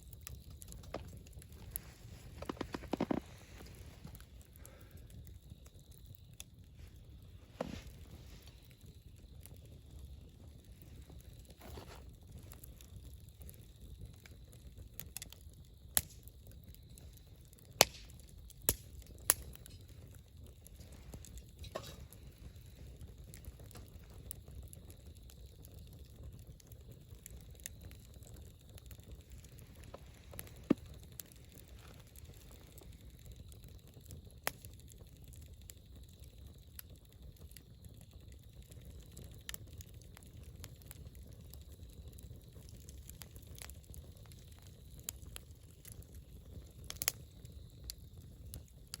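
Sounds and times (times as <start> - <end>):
crackling pops of burning wood: 0.0 - 49.0
fire low rumble: 0.0 - 49.0.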